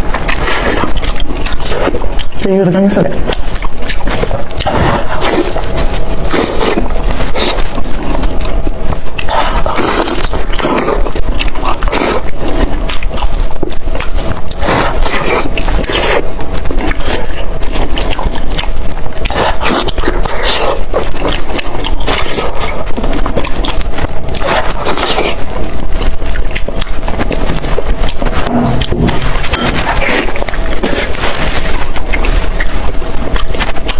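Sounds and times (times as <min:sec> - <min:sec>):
chewing and smacking food: 0:00.0 - 0:33.9.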